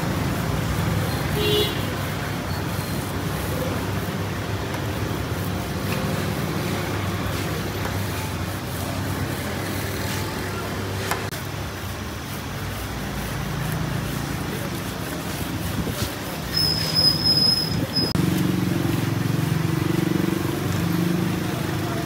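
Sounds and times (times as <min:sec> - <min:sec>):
roadside traffic noise: 0:00.0 - 0:22.0.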